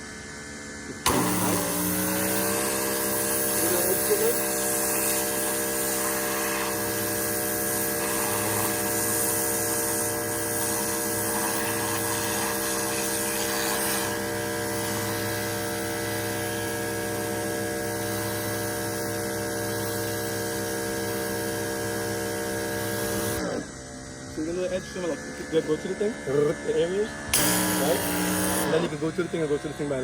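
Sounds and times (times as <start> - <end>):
pressure washer running: 0.0 - 30.0.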